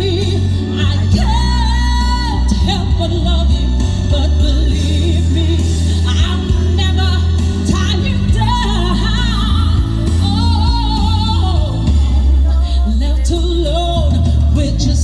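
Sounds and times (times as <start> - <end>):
band with heavy bass: 0.0 - 15.0
woman singing with vibrato: 0.0 - 15.0.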